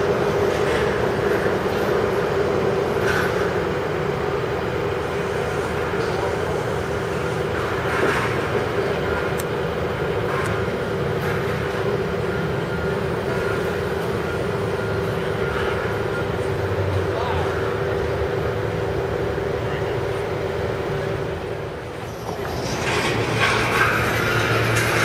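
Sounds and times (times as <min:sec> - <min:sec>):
mechanical drone hum: 0:00.0 - 0:25.0.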